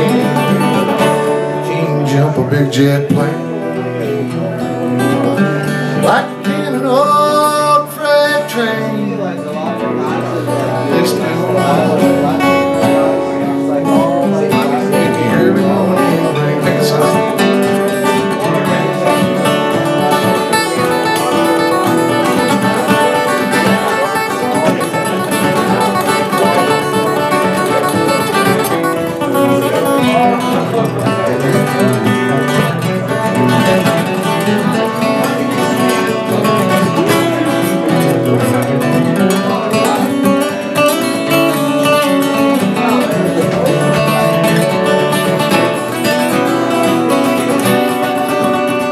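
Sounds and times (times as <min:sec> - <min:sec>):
acoustic guitars playing: 0:00.0 - 0:48.9.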